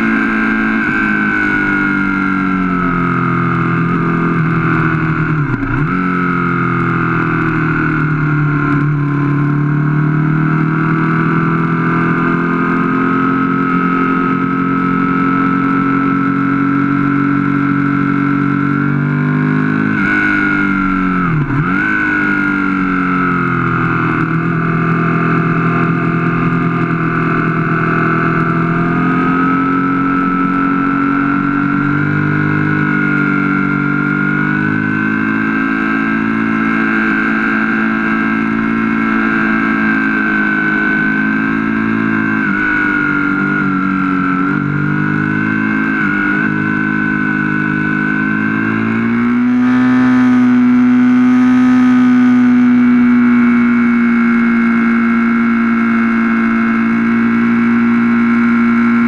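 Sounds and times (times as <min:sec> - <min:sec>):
motorcycle engine running on track: 0:00.0 - 0:59.0.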